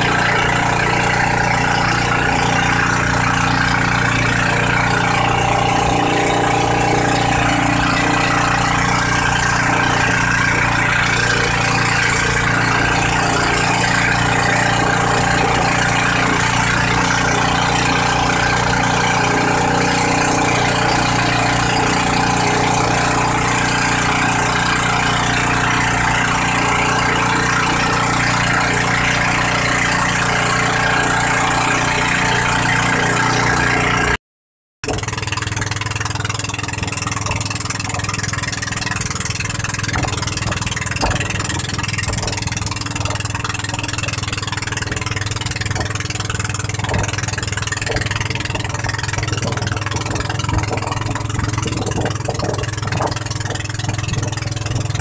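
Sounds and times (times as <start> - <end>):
boat engine running: 0.0 - 34.2, 34.8 - 55.0
water and wind rushing: 0.0 - 34.2, 34.8 - 55.0.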